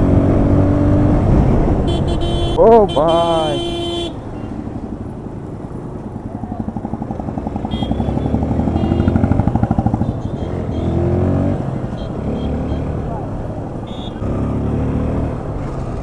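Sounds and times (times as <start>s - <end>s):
motorcycle engine accelerating: 0.0s - 2.6s, 3.7s - 16.0s.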